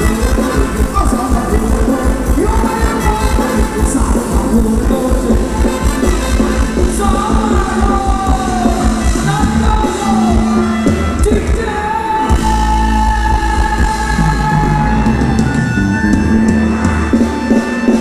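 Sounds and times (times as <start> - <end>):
live band with singer: 0.0 - 18.0.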